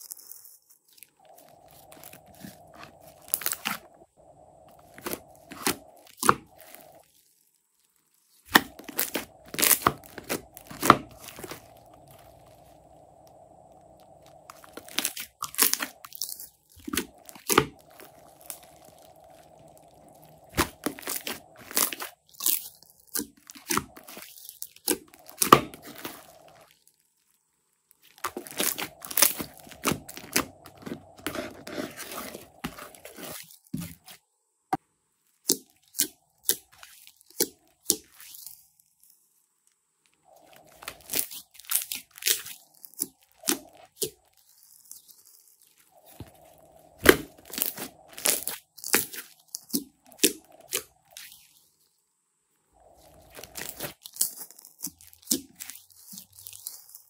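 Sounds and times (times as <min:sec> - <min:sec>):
slime squishing by hand: 0:00.0 - 0:34.2, 0:40.1 - 0:51.6, 0:52.8 - 0:57.0.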